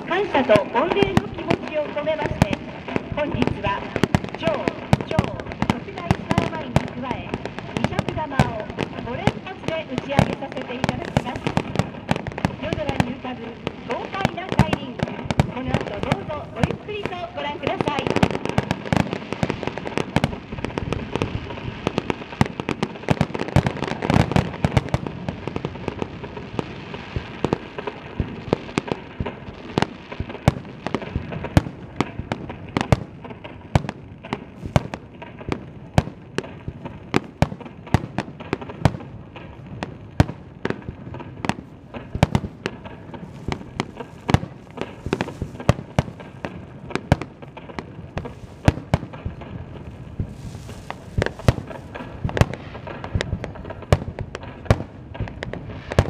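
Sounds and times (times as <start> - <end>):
fireworks bangs: 0.0 - 56.0
fireworks crackle and rumble: 0.0 - 56.0.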